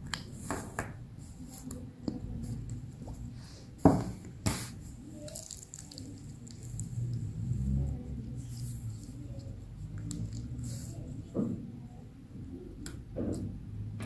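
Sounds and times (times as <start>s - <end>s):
slime squishing: 0.0s - 3.4s, 4.0s - 12.0s.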